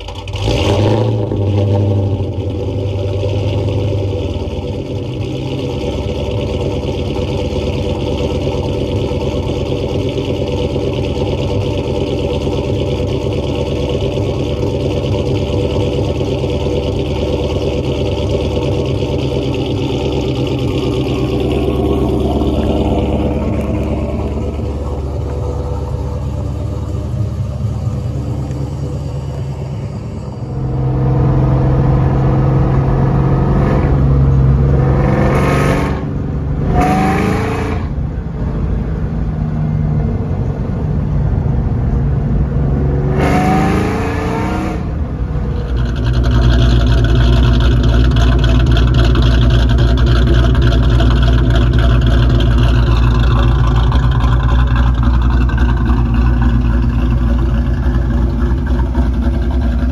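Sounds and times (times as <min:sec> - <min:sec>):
car engine accelerating: 0:00.0 - 0:59.9
car engine idling through exhaust: 0:00.0 - 0:59.9.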